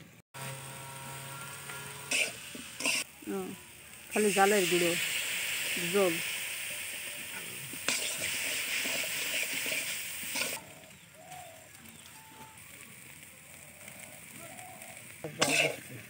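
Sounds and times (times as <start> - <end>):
food sizzling in hot oil: 0.4 - 10.8, 11.4 - 16.0.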